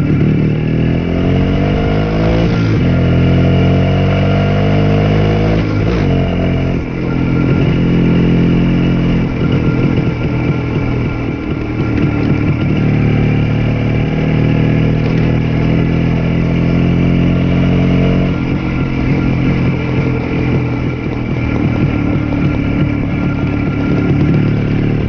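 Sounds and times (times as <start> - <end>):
two-stroke motorcycle engine running: 0.0 - 25.0.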